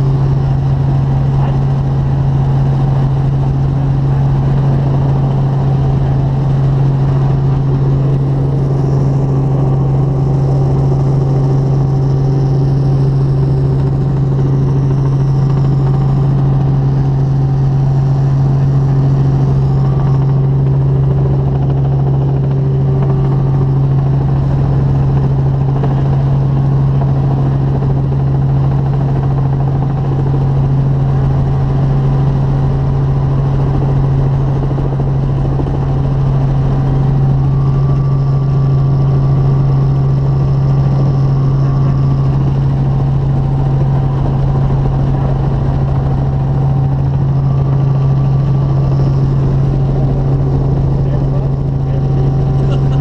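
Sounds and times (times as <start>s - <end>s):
helicopter engine and rotors drone: 0.0s - 53.0s.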